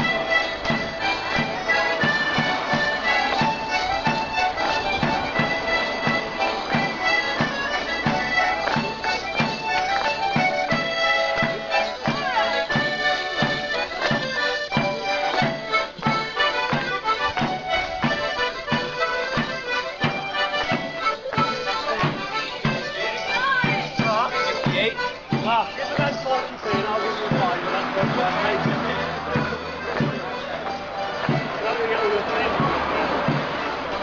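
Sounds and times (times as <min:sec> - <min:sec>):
accordions playing dance tune: 0:00.0 - 0:34.0
drum beat: 0:00.1 - 0:34.0.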